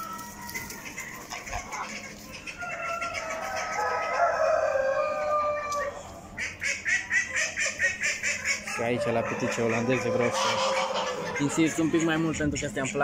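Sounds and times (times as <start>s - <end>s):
geese honking: 0.0s - 12.5s
roosters crowing: 0.0s - 12.8s.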